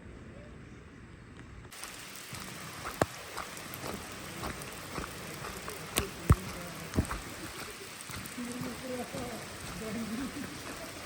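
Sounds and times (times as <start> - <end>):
steady rain falling: 1.7 - 11.0.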